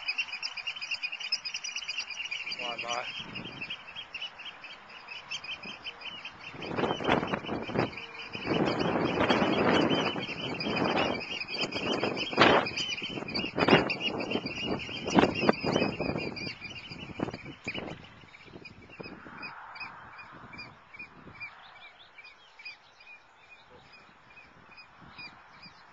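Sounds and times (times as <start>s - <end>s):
birds piping calls: 0.0s - 25.9s
wind buffeting microphone: 2.0s - 4.1s, 4.7s - 22.0s, 23.7s - 25.9s.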